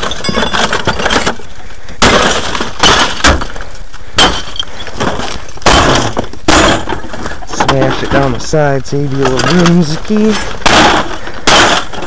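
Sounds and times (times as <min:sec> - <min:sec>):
glass breaking: 0:00.0 - 0:01.4, 0:02.0 - 0:03.5, 0:04.2 - 0:08.4, 0:09.2 - 0:12.0
hard blows smashing television: 0:00.0 - 0:08.4, 0:09.2 - 0:12.0
debris clattering: 0:00.0 - 0:12.0.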